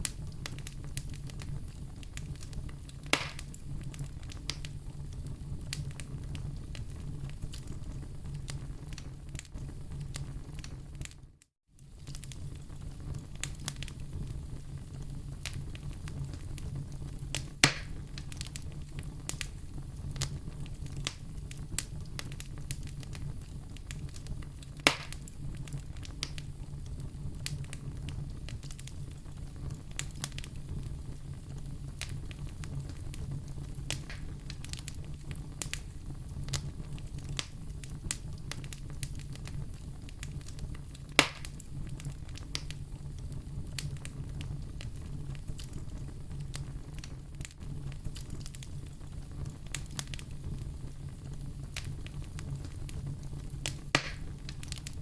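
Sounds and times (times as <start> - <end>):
loud sharp pops of fire: 0.0 - 11.2, 11.8 - 55.0
wood fire crackling: 0.0 - 55.0.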